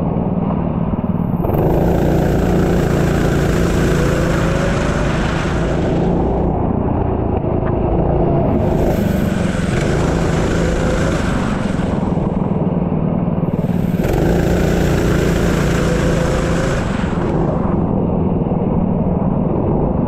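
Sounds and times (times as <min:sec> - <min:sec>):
steady low rumble: 0:00.0 - 0:20.0
racing engine accelerating: 0:01.1 - 0:19.0.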